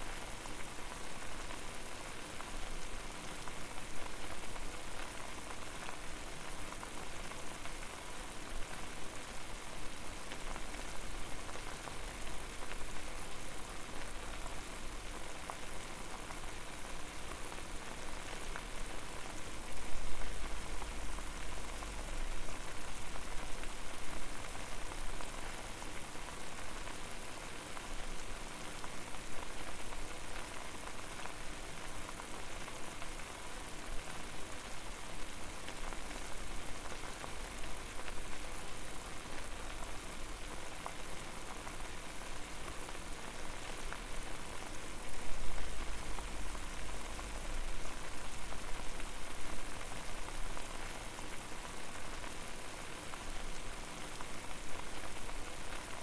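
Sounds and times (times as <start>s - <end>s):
water boiling with bubbles bursting: 0.0s - 56.0s.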